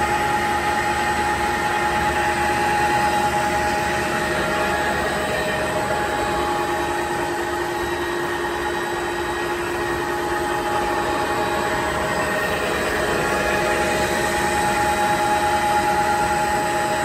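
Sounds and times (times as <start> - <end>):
machine humming and whining: 0.0 - 17.0.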